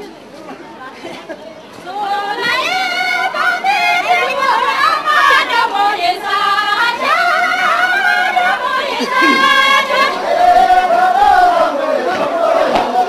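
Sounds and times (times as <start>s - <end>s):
group of men and women singing: 1.8s - 13.0s.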